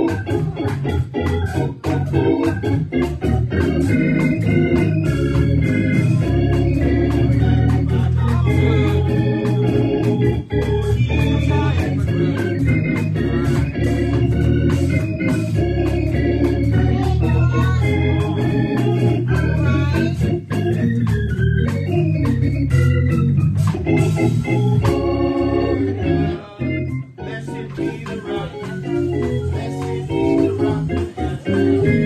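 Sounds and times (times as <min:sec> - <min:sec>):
organ chords over heavy bass: 0:00.0 - 0:32.0.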